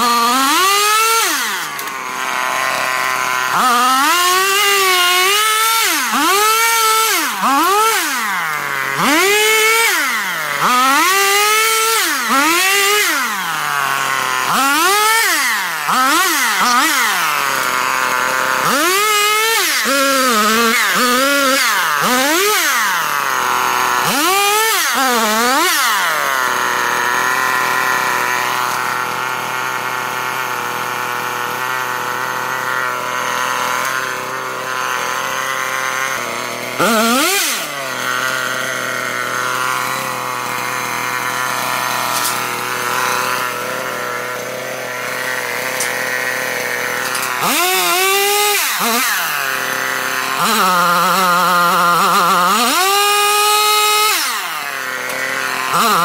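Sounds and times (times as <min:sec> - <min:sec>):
chainsaw idling: 0:00.0 - 0:56.0
chainsaw revving cutting wood: 0:00.0 - 0:56.0.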